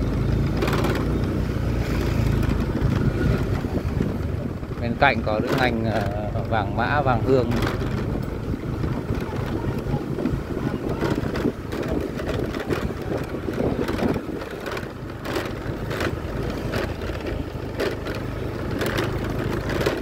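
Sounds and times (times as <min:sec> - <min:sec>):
low engine hum: 0:00.0 - 0:20.0
wind buffeting microphone: 0:00.0 - 0:20.0
light clicks and knocks: 0:02.0 - 0:20.0.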